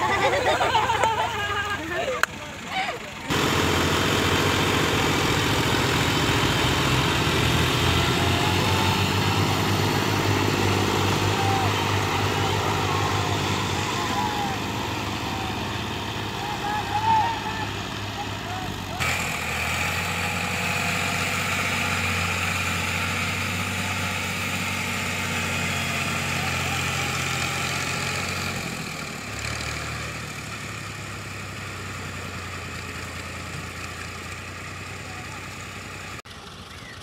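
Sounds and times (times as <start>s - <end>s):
tractor engines idling: 0.0s - 37.0s.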